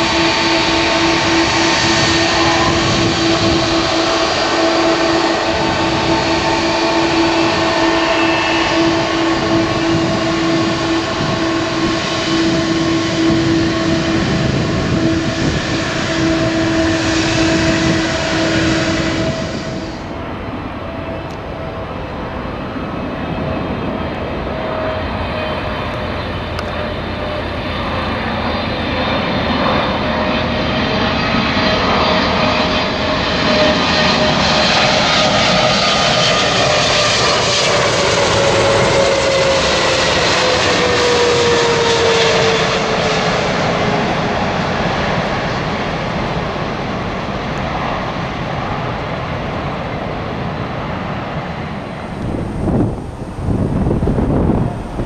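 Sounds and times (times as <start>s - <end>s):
jet airliner passing close: 0.0s - 55.0s.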